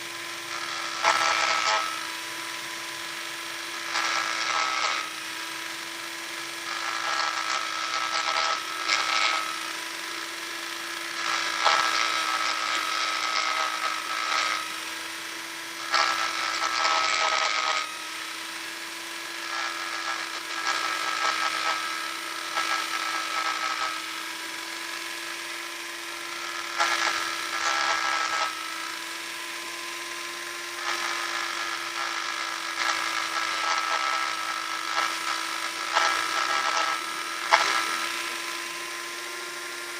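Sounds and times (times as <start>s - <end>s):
electric sander humming: 0.0s - 39.9s
sander pad rasping on wood: 0.0s - 39.9s.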